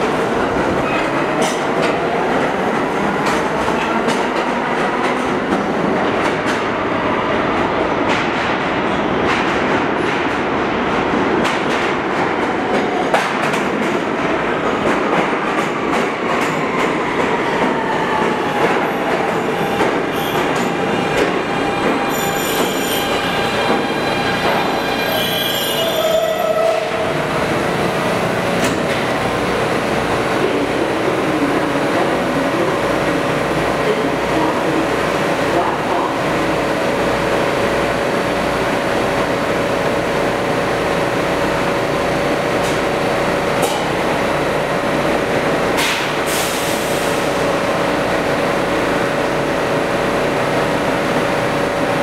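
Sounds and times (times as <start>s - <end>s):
standing train humming: 0.0s - 46.3s.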